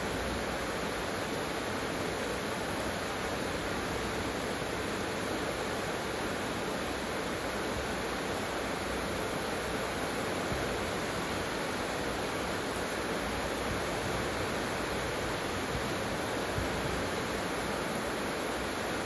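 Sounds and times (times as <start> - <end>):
heavy rain falling: 0.1 - 19.0.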